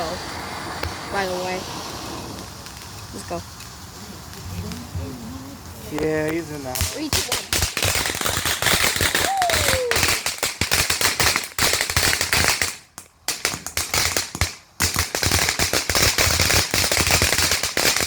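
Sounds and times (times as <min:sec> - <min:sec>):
firecrackers banging: 0:00.0 - 0:18.0.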